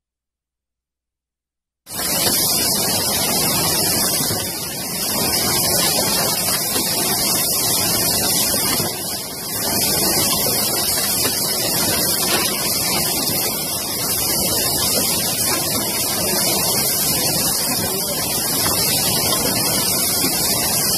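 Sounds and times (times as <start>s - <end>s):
filling machine hissing: 1.9s - 20.9s.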